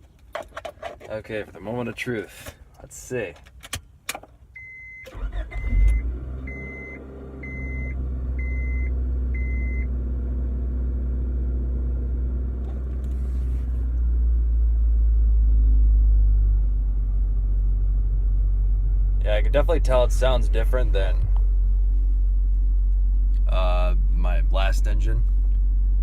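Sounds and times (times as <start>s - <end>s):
car engine starting and idling: 4.0s - 26.0s.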